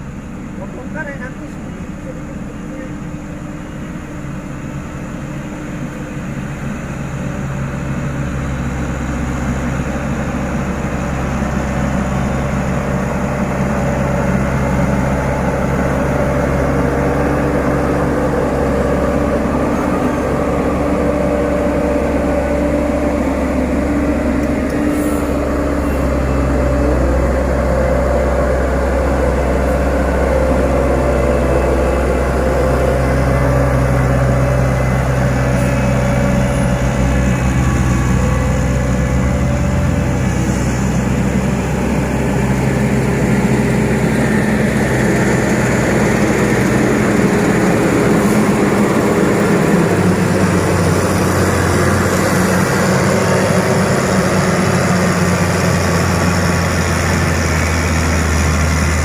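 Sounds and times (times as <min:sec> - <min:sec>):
construction machine diesel engine: 0:00.0 - 0:59.0.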